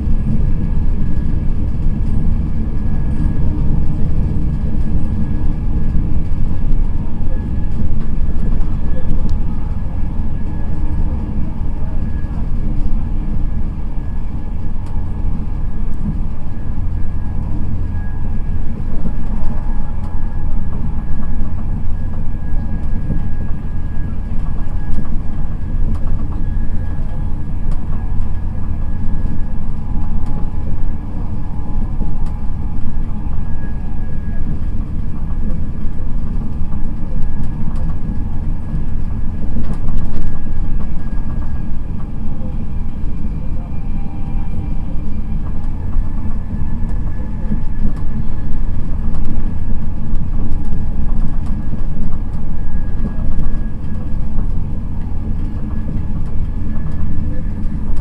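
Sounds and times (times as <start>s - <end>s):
faint high whine: 0.0s - 58.0s
train low rumble: 0.0s - 58.0s.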